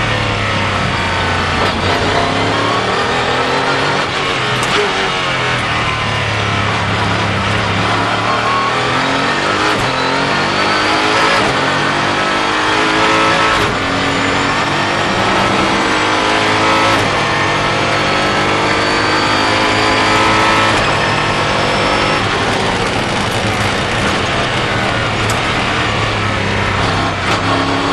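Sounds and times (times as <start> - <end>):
race car engine accelerating: 0.0 - 27.9.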